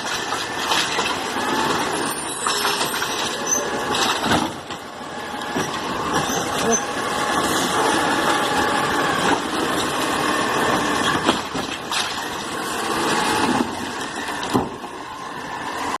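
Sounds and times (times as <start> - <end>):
garbage truck engine running: 0.0 - 16.0.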